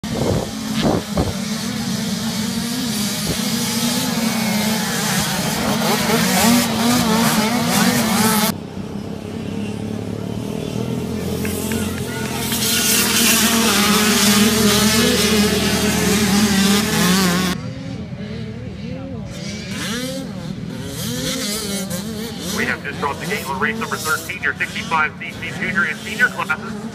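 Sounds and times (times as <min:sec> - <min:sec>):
dirt bikes revving: 0:00.0 - 0:17.6, 0:20.8 - 0:26.9.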